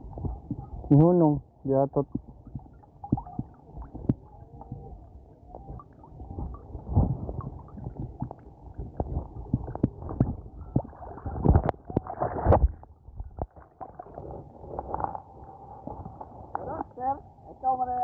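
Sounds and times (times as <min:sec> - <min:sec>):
water sloshing around wading legs: 0:02.2 - 0:16.9.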